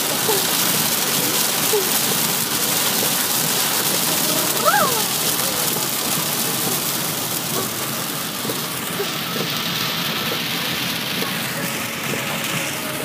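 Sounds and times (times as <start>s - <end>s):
heavy rain on car roof: 0.0s - 13.0s.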